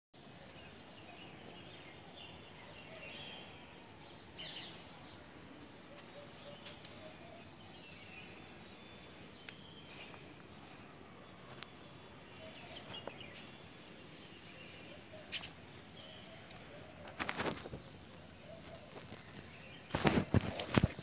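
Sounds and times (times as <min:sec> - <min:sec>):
distant birds chirping: 0:00.2 - 0:21.0
outdoor background noise: 0:00.2 - 0:21.0.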